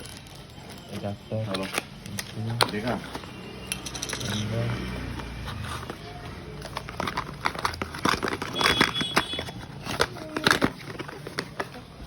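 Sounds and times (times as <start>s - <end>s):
packaging clicks taps and crinkles: 0.0s - 12.0s.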